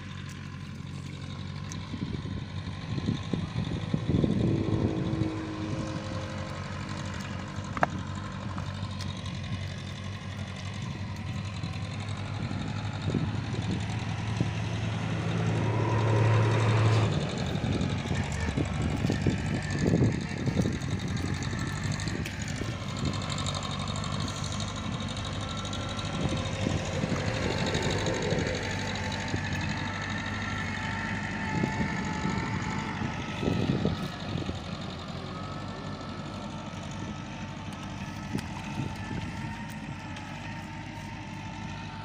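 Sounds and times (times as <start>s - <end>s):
motor humming: 0.0s - 42.0s.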